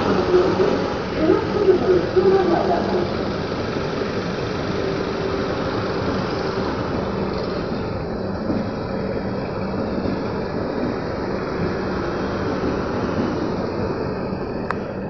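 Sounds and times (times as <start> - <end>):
train coaches rumbling and rattling: 0.0 - 15.0.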